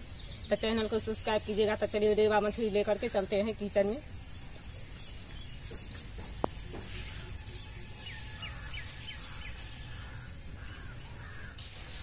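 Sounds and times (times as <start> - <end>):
bird chirping: 0.0 - 12.0
crickets droning: 0.0 - 12.0.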